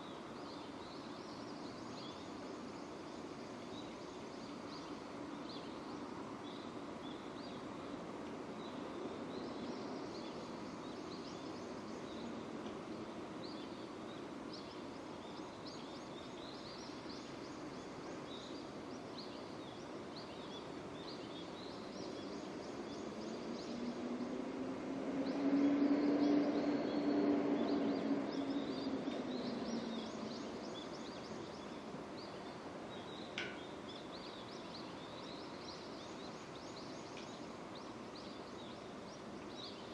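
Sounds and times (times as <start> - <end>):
small birds chirping: 0.0 - 24.5, 25.2 - 39.9.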